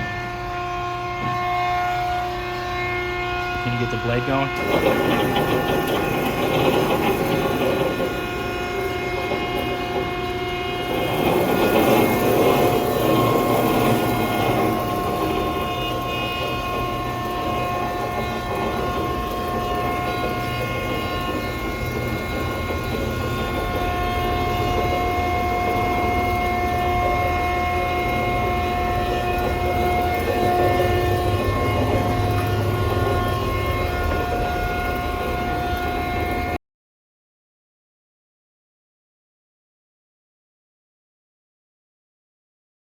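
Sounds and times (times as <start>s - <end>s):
band saw whining: 0.0s - 36.6s.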